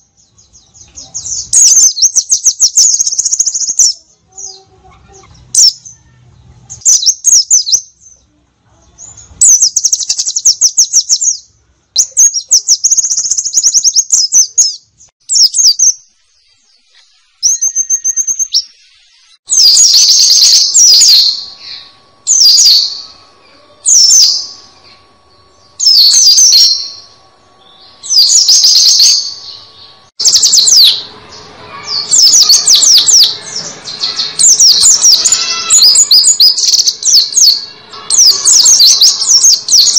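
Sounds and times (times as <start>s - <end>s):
bird singing high-pitched song: 0.0s - 39.9s.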